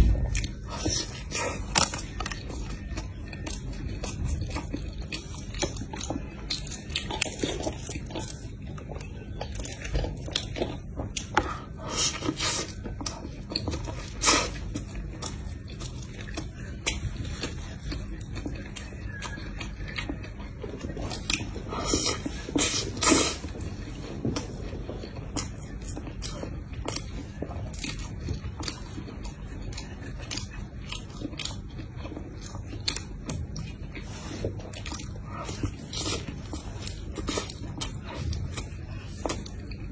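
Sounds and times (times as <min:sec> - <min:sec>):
crunchy burger chewing: 0:00.0 - 0:39.9.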